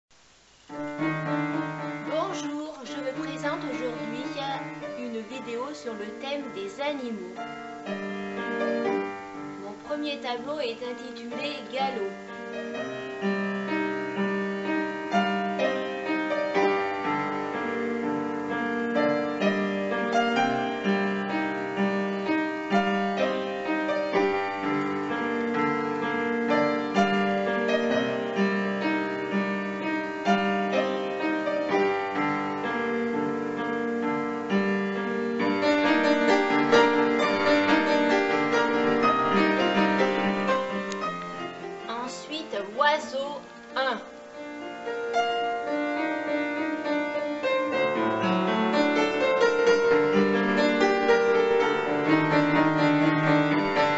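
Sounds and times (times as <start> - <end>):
slow gentle piano music: 0.2 - 53.9.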